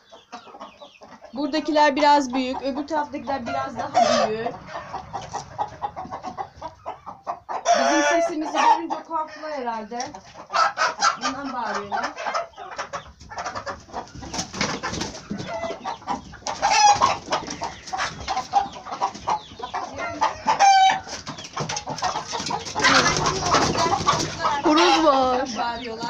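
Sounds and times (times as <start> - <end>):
chickens clucking and squawking: 0.0 - 26.0.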